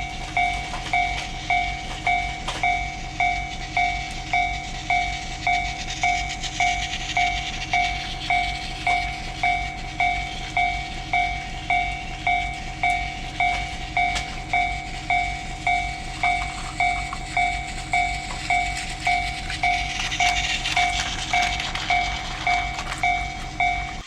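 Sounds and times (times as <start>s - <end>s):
level crossing bell clanging: 0.0s - 24.0s
train running: 0.0s - 24.0s.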